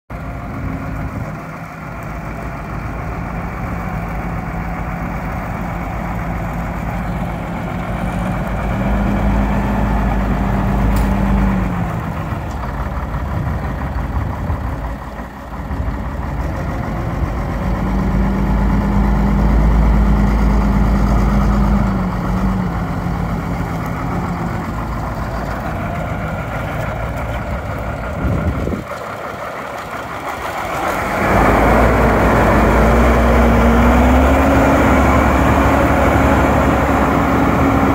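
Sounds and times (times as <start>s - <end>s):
truck diesel engine idling: 0.1s - 37.9s.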